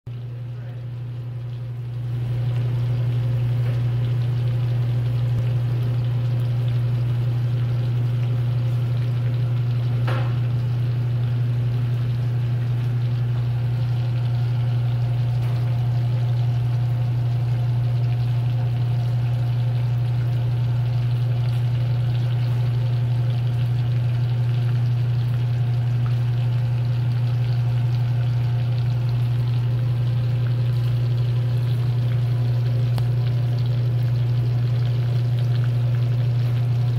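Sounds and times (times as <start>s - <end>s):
loud low hum: 0.1s - 36.9s
patties sizzling in oil: 0.6s - 36.9s.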